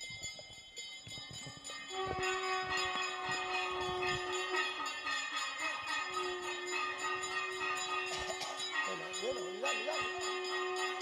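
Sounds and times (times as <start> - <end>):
bells ringing rapidly: 0.0 - 11.0
lower-pitched bell ringing: 0.0 - 11.0.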